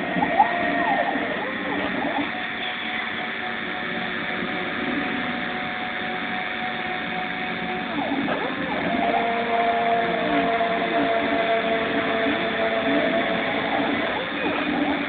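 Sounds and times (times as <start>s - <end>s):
cnc machine motor whine: 0.0s - 15.0s.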